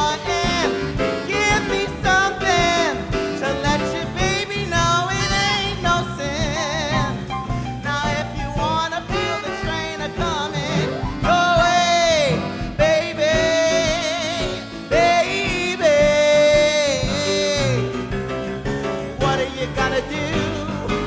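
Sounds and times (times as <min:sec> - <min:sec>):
person singing wordless vocal runs: 0:00.0 - 0:18.2, 0:19.2 - 0:21.0
live band playing swing music: 0:00.0 - 0:21.0.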